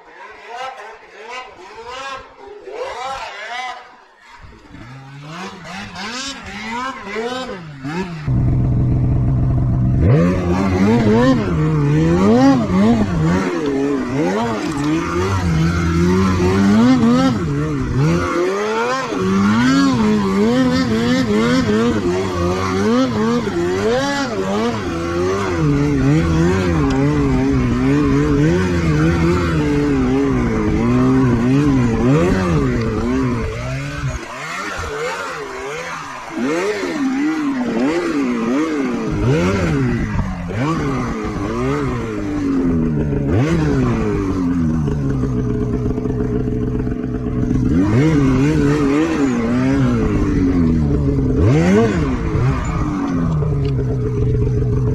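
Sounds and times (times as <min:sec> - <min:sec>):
snowmobile engine revving: 0:00.4 - 0:54.9.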